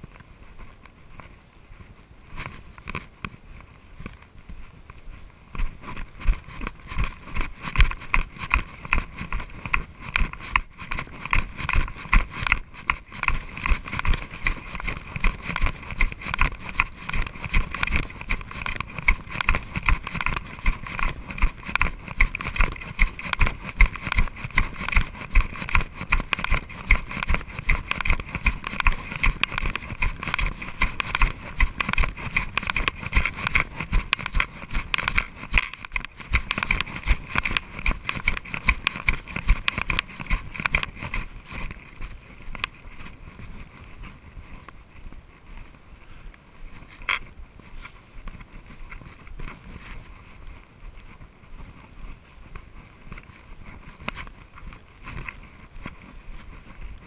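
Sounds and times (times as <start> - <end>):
mountain bike rattling on trail: 0.0 - 57.0.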